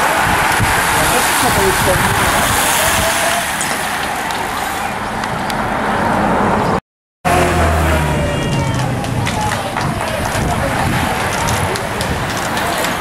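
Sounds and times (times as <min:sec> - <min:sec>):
passing bicycles and traffic rushing: 0:00.0 - 0:13.0
motorcycle engine humming: 0:00.1 - 0:12.6.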